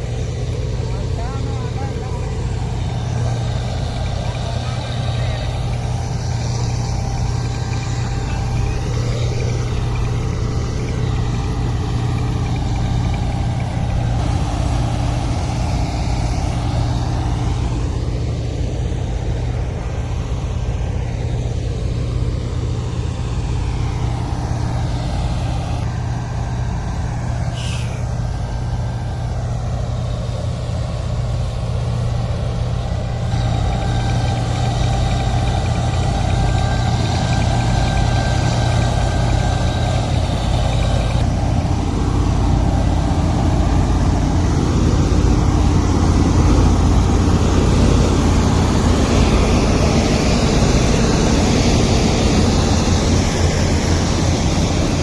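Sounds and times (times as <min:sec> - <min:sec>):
heavy engine droning: 0:00.0 - 0:55.0.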